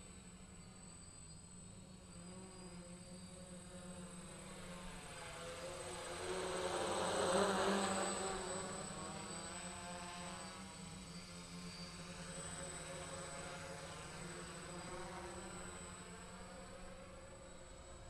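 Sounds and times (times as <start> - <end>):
quadcopter buzzing: 1.6 - 18.0.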